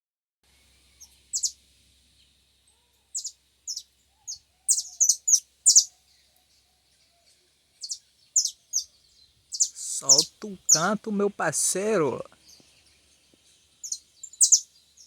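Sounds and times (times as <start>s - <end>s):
small songbird chirping: 0.7s - 15.0s.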